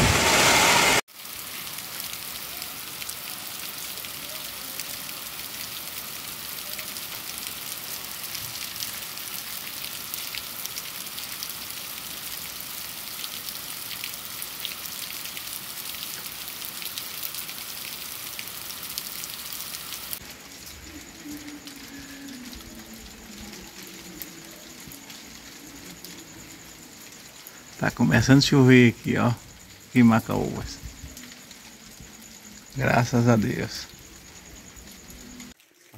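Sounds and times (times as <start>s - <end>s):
rain on cobbled street: 0.0s - 35.9s.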